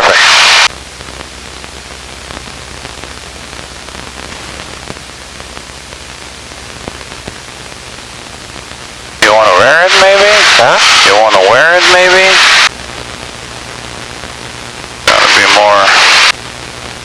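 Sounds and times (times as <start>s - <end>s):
headset audio hiss: 0.0s - 17.0s
low steady hum: 0.3s - 17.0s.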